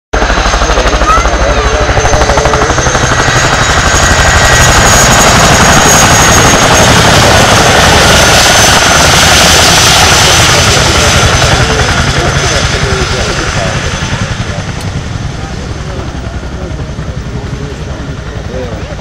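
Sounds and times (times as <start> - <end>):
helicopter rotors beating: 0.2 - 19.0
turbine engine whine: 0.2 - 19.0.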